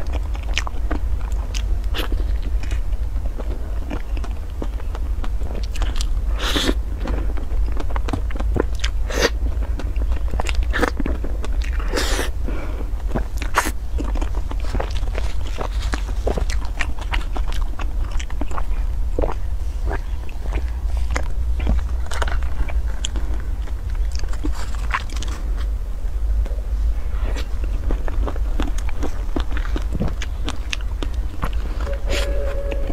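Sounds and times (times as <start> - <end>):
person chewing food: 0.0 - 25.8, 26.4 - 32.9
steady low hum: 0.0 - 32.9.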